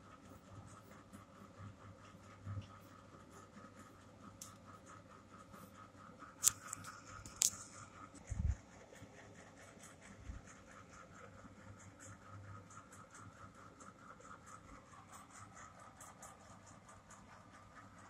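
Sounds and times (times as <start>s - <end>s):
paint brush scratching: 0.0s - 18.0s.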